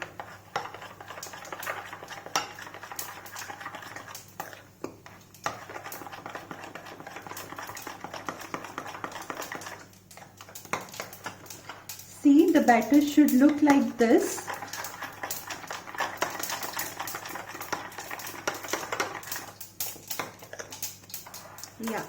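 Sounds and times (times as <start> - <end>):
spoon scraping bowl: 0.0 - 22.0.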